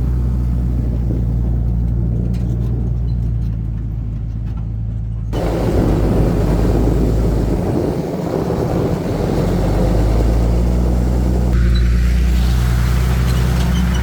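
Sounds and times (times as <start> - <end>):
truck engine hum: 0.0 - 14.0
tyre and road noise: 0.0 - 14.0.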